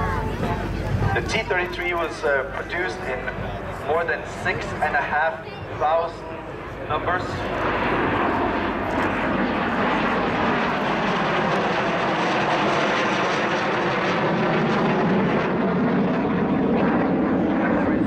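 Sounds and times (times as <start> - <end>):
jet engine noise: 0.0 - 18.0.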